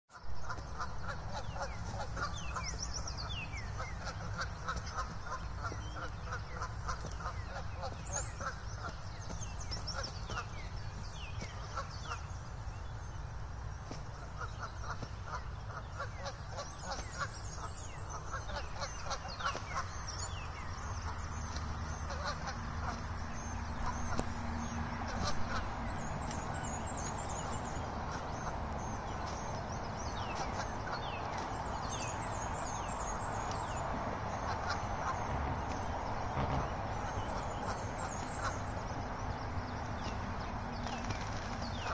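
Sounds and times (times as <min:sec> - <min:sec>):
small birds chirping: 0:00.1 - 0:41.9
geese honking: 0:00.4 - 0:09.0, 0:14.4 - 0:39.2, 0:40.0 - 0:41.9.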